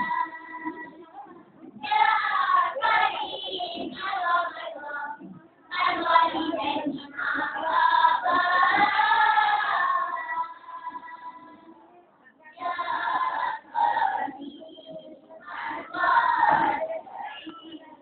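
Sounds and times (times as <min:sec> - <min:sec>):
boys singing a chanted song: 0:00.0 - 0:00.9, 0:01.8 - 0:11.6, 0:12.6 - 0:17.8.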